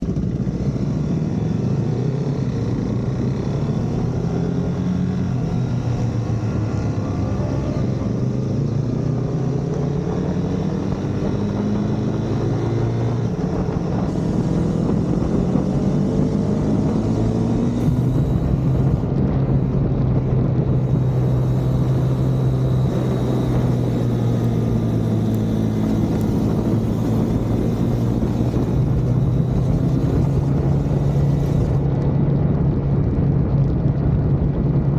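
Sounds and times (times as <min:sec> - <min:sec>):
race car engine revving: 0:00.8 - 0:32.0.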